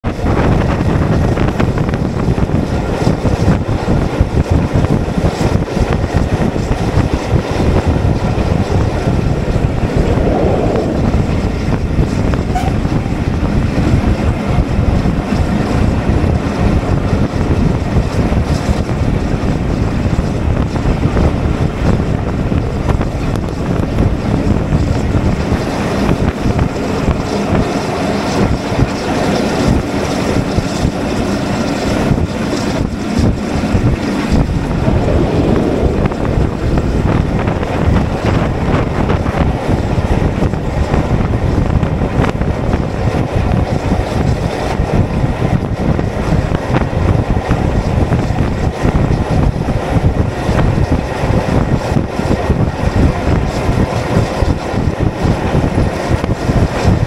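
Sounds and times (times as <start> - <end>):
steam train rumbling: 0.0 - 57.0
wind buffeting microphone: 0.0 - 57.0.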